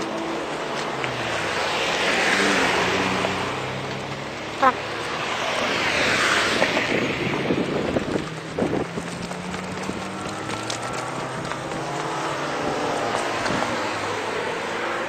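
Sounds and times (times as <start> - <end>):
cars passing by: 0.0 - 15.0.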